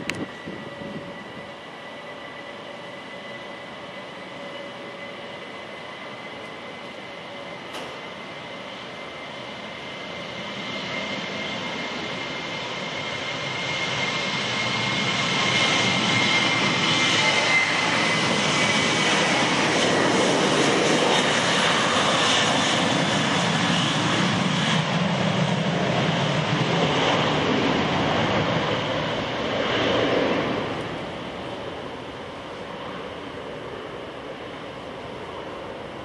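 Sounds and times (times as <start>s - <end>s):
jet engine high whine: 0.0s - 36.0s
jet engine roar: 0.0s - 36.0s.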